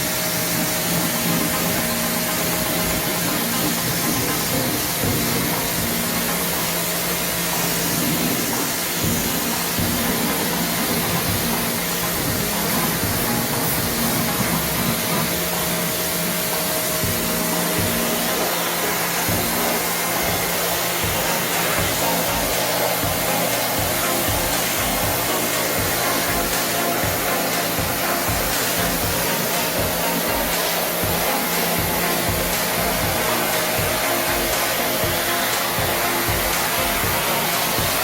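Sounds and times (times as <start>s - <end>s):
pressure washer spraying water: 0.0s - 38.0s
washer motor humming: 0.0s - 38.0s.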